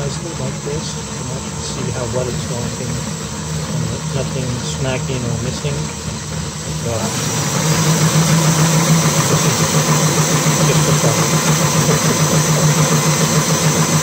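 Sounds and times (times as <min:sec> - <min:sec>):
drill driver whirring: 0:00.0 - 0:14.0.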